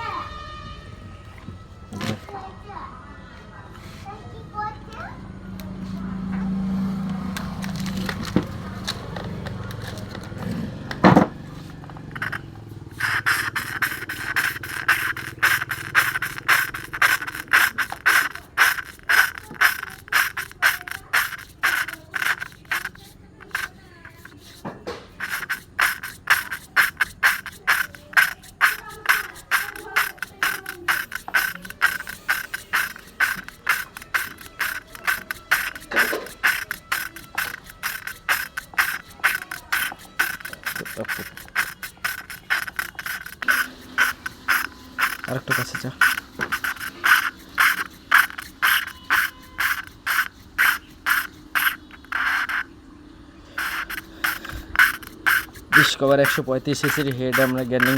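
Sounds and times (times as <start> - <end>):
valve grinding scrape: 6.7 - 52.8, 53.4 - 57.9.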